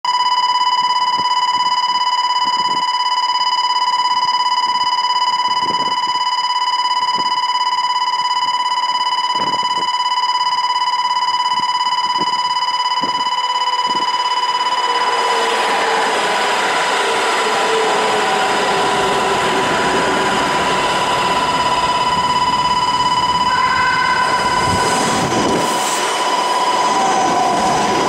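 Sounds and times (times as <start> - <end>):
railway warning alarm tone: 0.1 - 28.0.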